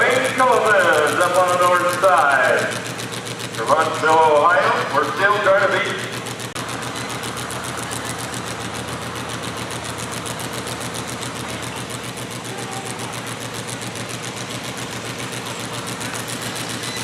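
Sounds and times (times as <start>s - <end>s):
tractor engine running hard: 0.0s - 17.0s.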